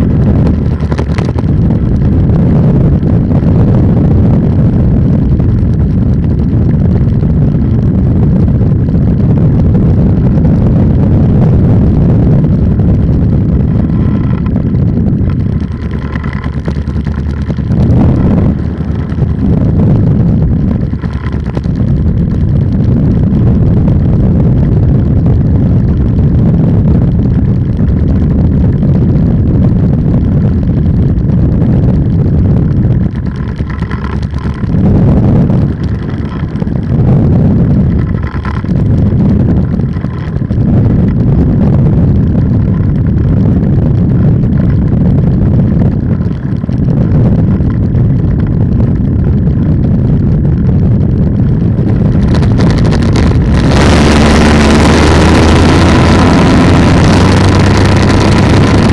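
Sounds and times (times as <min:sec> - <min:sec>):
two-stroke engine running: 0:00.0 - 0:58.9
wind rush on microphone: 0:00.0 - 0:58.9.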